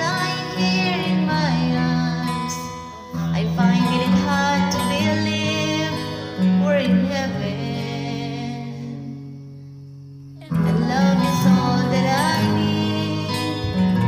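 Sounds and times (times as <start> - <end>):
woman singing: 0.0 - 9.3, 10.4 - 14.0
acoustic guitar backing track: 0.0 - 14.0.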